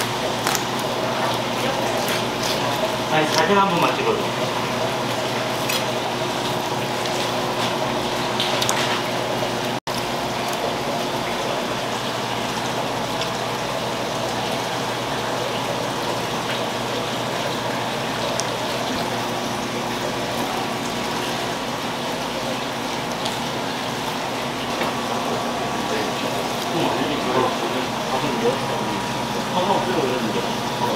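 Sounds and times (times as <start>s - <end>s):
low kitchen hum: 0.0s - 30.9s
running water: 0.0s - 30.9s.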